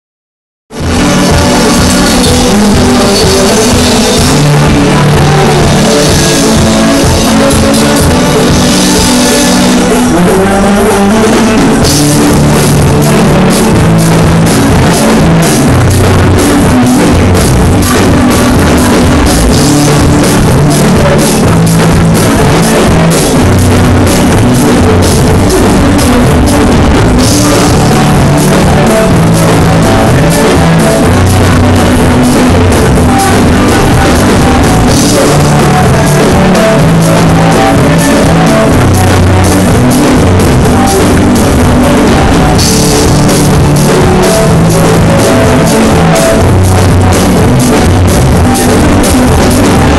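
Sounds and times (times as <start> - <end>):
drum kit beat: 0.7 - 49.9
loud live band music: 0.7 - 49.9.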